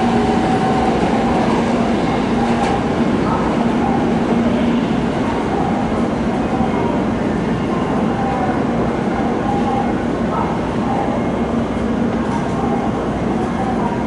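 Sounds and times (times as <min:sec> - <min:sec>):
train rail rumble: 0:00.0 - 0:14.0.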